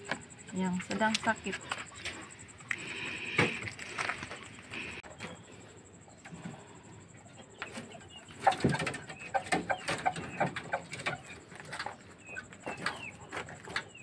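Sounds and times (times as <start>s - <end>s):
chickens clucking and peeping: 0.0s - 14.0s.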